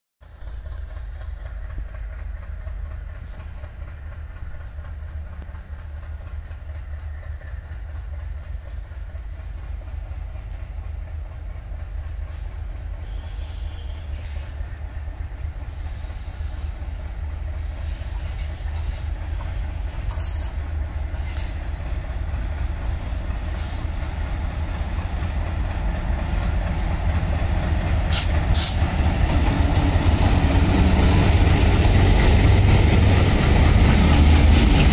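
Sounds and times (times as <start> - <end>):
diesel locomotive engine rumble: 0.2 - 34.9.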